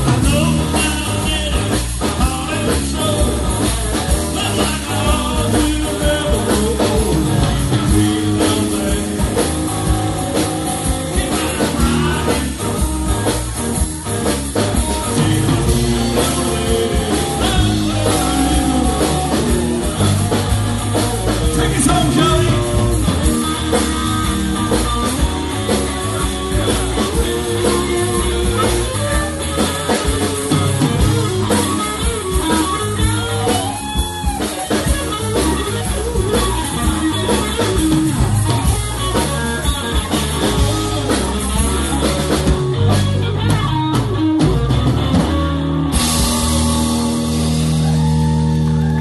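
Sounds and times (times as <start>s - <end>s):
drum kit: 0.0s - 49.0s
electric bass: 0.0s - 49.0s
electric guitar lead: 0.0s - 49.0s
rhythm guitar: 0.0s - 49.0s.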